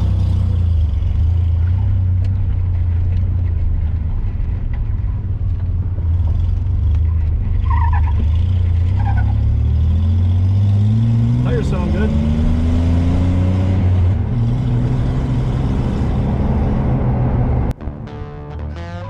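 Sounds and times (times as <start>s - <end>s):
road and wind noise: 0.0s - 19.0s
truck engine running: 0.0s - 19.0s.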